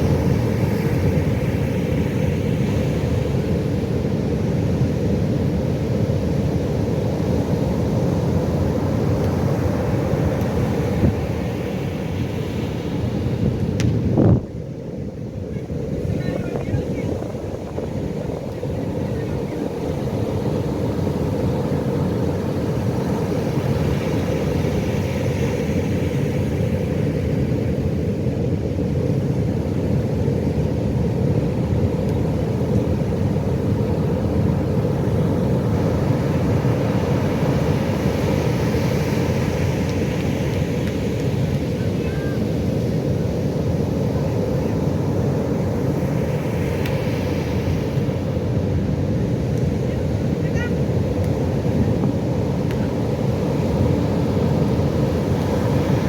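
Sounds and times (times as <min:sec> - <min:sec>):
low rumble of waves: 0:00.0 - 0:56.0
wave breaking and washing in: 0:00.0 - 0:56.0.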